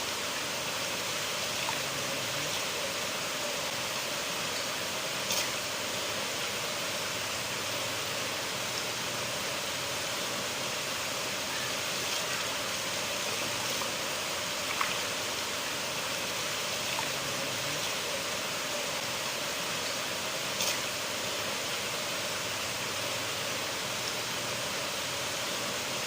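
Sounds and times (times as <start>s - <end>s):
river water rushing over rocks: 0.0s - 26.0s
water splashes: 0.0s - 26.0s.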